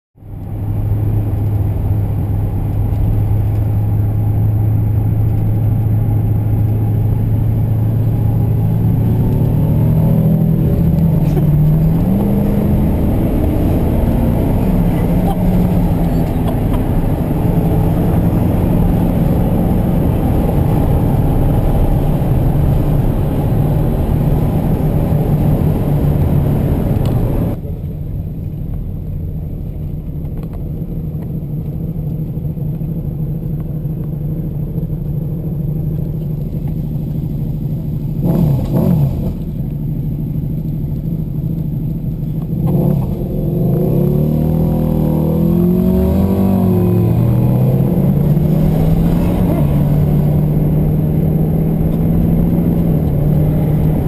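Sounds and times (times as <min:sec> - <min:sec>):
car engine inside cabin: 0:00.2 - 0:54.0
road noise: 0:00.2 - 0:54.0.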